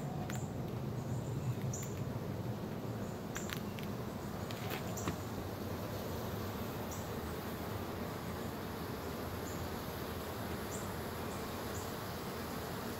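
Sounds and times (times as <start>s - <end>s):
bee swarm buzzing: 2.2s - 12.9s.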